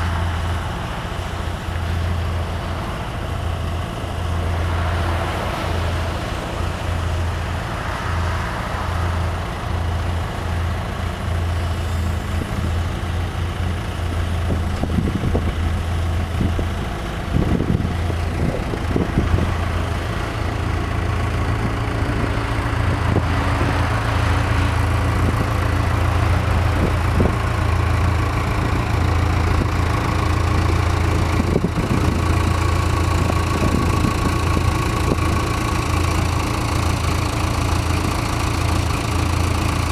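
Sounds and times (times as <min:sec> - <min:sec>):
boom lift engine running: 0:00.0 - 0:39.9.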